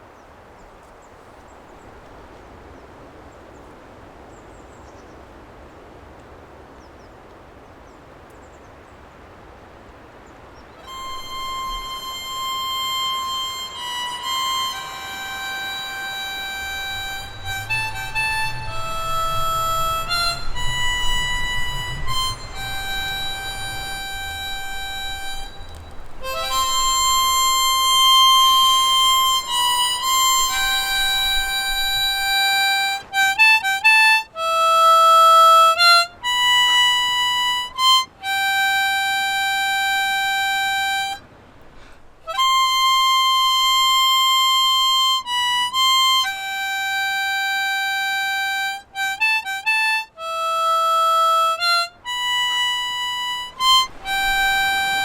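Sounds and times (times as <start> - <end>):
slow reedy wind instrument melody: 10.7 - 55.0.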